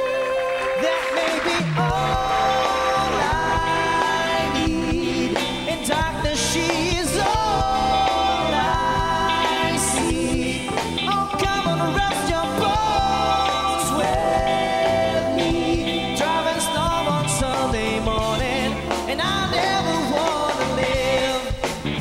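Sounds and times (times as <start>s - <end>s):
bass guitar: 0.0s - 22.0s
electric guitar: 0.0s - 22.0s
steady drum beat: 0.8s - 22.0s.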